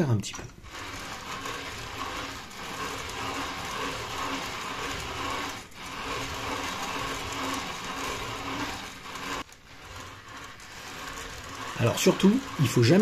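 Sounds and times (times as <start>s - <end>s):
hand-cranked mill grinding seeds: 0.0s - 13.0s.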